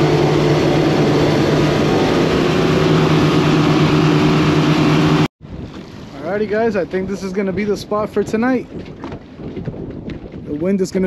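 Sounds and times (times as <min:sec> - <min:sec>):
outboard motors humming: 0:00.0 - 0:10.8
rush of wind and water: 0:00.0 - 0:11.0.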